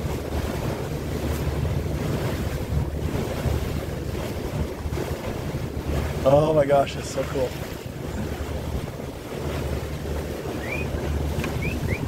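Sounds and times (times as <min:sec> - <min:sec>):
boat engine hum: 0:00.0 - 0:12.0
water rushing past a hull: 0:00.0 - 0:12.0
wind buffeting the microphone: 0:00.0 - 0:12.0.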